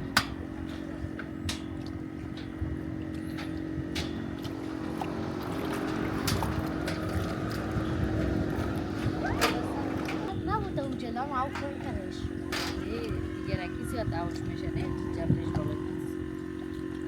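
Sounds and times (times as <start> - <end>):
low wind-like rumble: 0.0 - 16.9
engine hum: 0.0 - 17.0.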